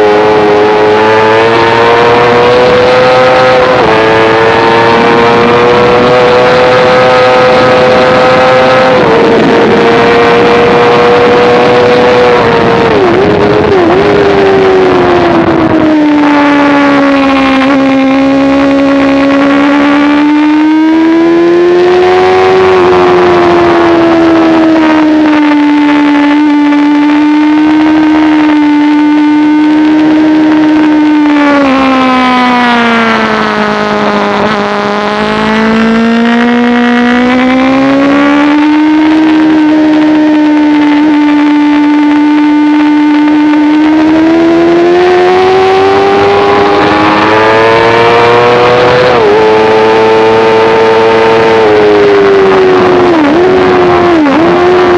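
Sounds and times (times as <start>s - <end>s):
motorcycle engine at high revs: 0.0s - 54.9s.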